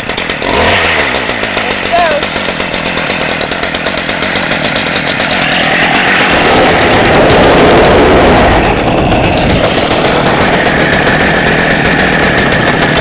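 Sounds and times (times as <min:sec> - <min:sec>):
string trimmer engine revving: 0:00.0 - 0:13.0.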